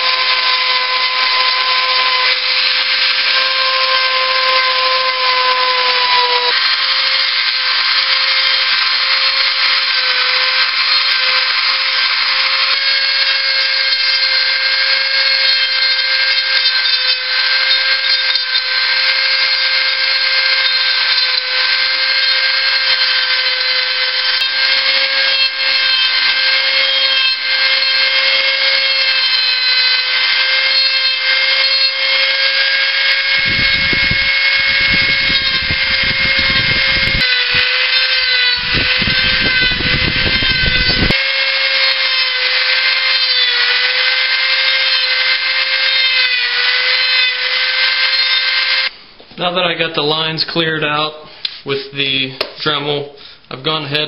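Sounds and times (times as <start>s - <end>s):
rotary tool grinding whine: 0.0s - 48.9s.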